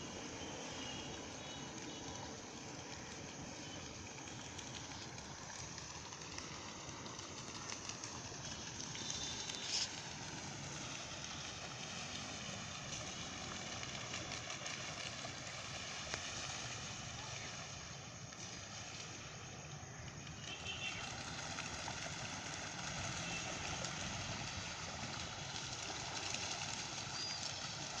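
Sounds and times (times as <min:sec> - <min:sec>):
steady noisy background: 0:00.0 - 0:28.0.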